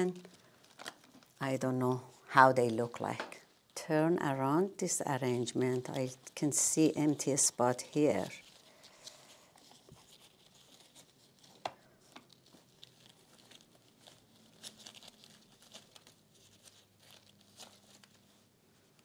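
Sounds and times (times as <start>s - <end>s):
flowers rustling and crinkling: 0.0s - 19.0s.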